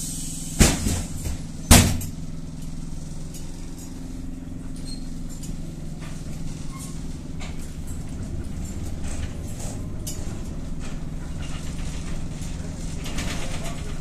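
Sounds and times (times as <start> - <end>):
trolleybus electric hum: 0.0 - 14.0.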